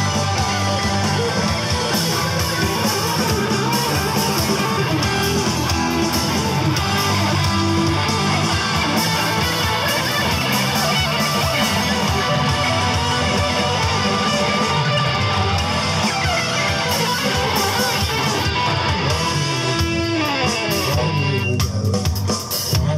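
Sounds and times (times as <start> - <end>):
live rock band playing: 0.0 - 22.9.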